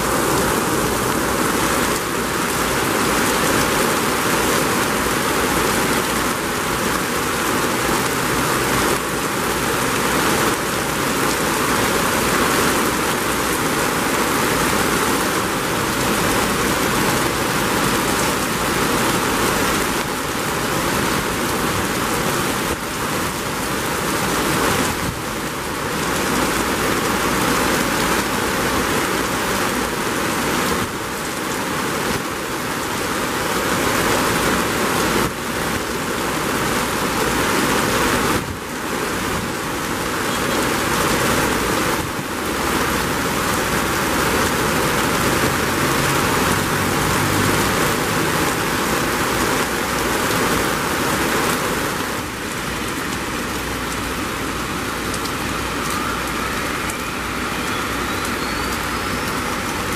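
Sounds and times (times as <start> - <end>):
heavy rain on hard surfaces: 0.0 - 59.9.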